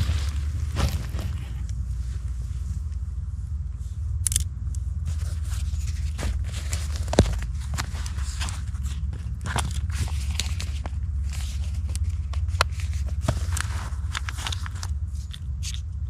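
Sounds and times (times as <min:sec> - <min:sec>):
low rumble: 0:00.0 - 0:16.0
rustles: 0:00.0 - 0:16.0.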